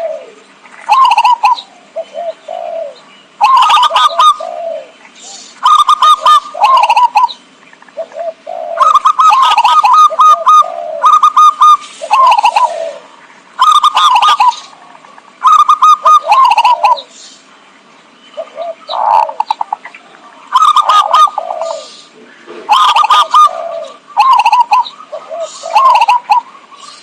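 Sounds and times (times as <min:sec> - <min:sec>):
doves cooing: 0:00.0 - 0:17.2, 0:18.4 - 0:27.0.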